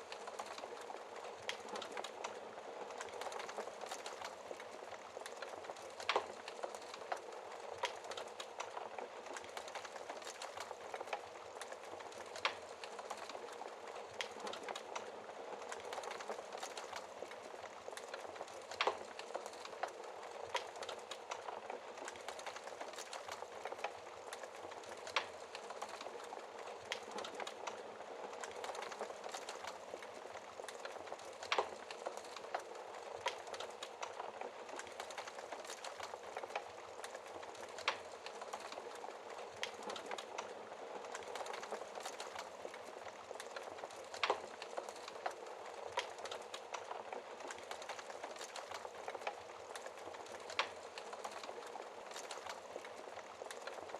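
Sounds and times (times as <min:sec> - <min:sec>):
fire crackling: 0:00.0 - 0:53.9.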